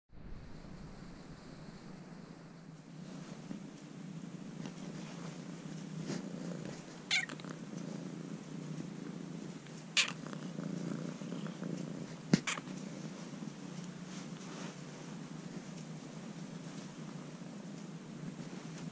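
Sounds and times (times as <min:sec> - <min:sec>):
kitten purring: 0:00.4 - 0:18.9.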